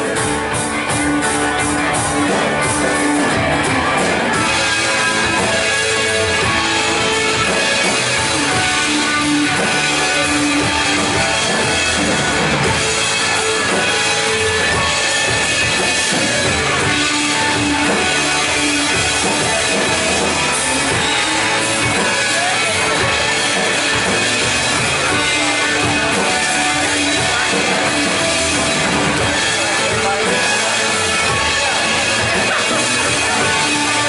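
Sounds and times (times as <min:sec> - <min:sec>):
rock band music: 0:00.0 - 0:34.0.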